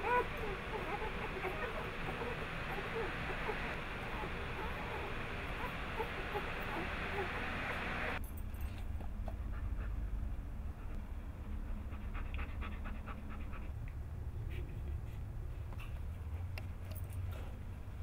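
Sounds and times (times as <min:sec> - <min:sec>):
dog panting: 0:00.0 - 0:07.4, 0:09.2 - 0:16.5.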